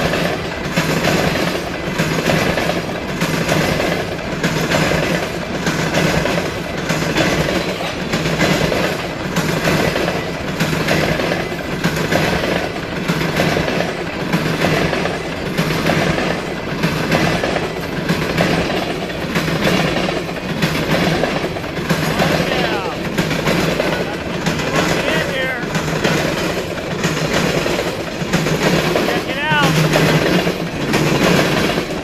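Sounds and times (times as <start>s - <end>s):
freight train rumble: 0.0s - 32.0s
train wheels clacking: 0.0s - 32.0s.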